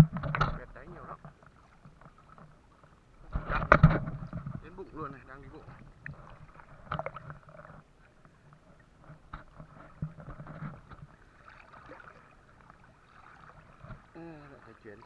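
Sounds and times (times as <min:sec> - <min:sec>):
water splashing around wading legs: 0:00.0 - 0:15.0.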